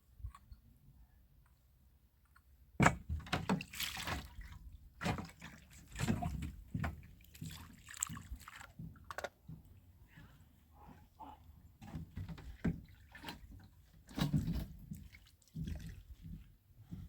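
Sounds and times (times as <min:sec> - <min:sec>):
water splashing and sloshing: 0:02.8 - 0:17.0.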